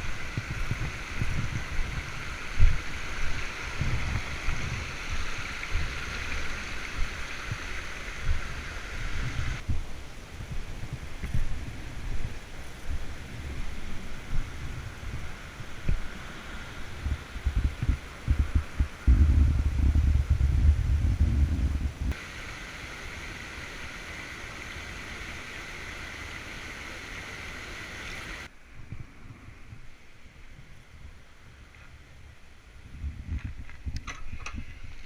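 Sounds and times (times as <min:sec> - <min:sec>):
wind buffeting microphone: 0:00.0 - 0:22.2, 0:28.2 - 0:35.0
steady hiss: 0:00.0 - 0:35.0.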